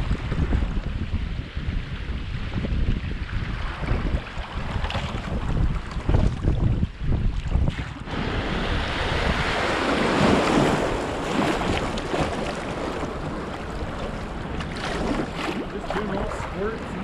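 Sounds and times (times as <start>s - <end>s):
wind buffeting microphone: 0.0s - 17.0s
creek water rushing and splashing: 1.6s - 6.7s, 7.5s - 17.0s.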